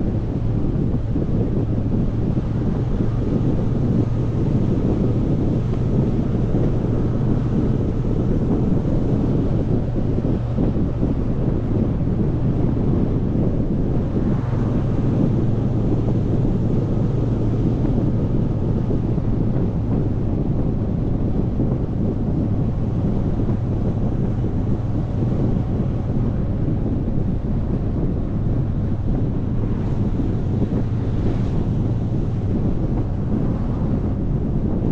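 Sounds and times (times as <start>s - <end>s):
motorcycle engine drone: 0.0s - 34.9s
wind rush on microphone: 0.0s - 34.9s.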